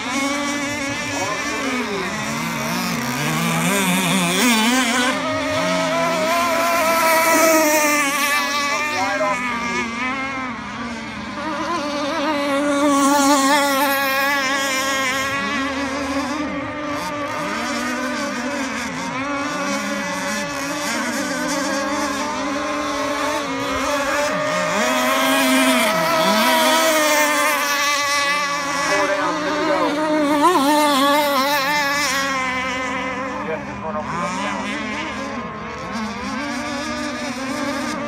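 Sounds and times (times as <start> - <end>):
small two-stroke boat engines revving: 0.0 - 38.0.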